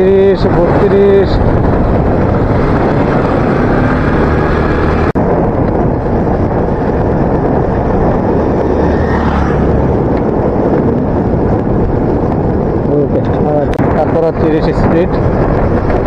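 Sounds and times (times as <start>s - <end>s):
motorcycle tyre noise: 0.0s - 16.0s
wind noise on microphone: 0.0s - 16.0s.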